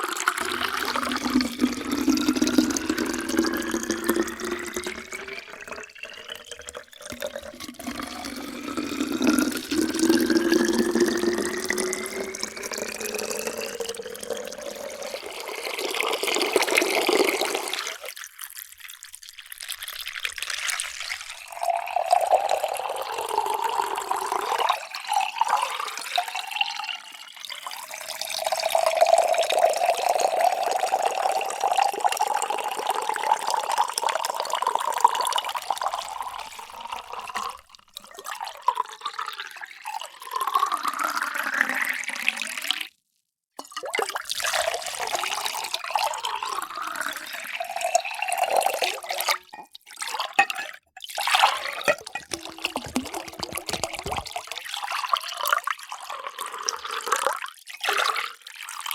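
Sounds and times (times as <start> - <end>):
water pouring into a container: 0.0 - 58.9.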